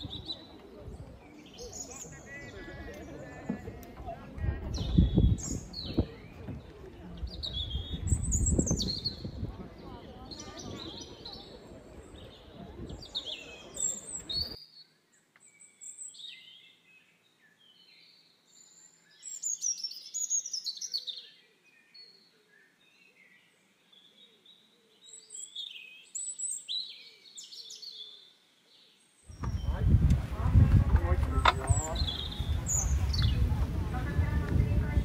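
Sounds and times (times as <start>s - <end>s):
low outdoor background noise: 0.0s - 35.0s
small birds chirping: 0.0s - 35.0s.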